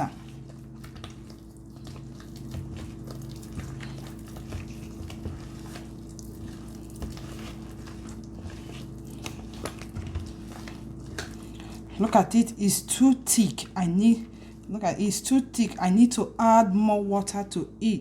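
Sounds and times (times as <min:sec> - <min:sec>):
dough squelching by hand: 0:00.0 - 0:18.0
steady low hum: 0:00.0 - 0:18.0.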